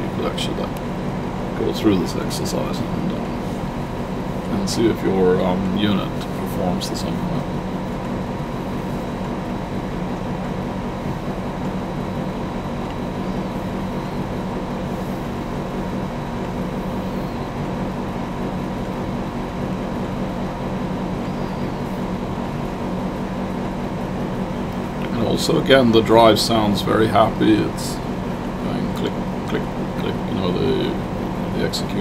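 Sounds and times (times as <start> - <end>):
air conditioner humming: 0.0 - 32.0.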